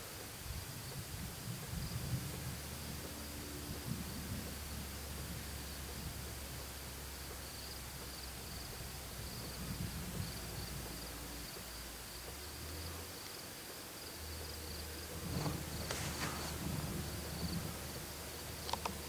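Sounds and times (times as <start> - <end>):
faint hiss: 0.0 - 19.0
low hum: 0.0 - 19.0
insects trilling: 0.6 - 19.0.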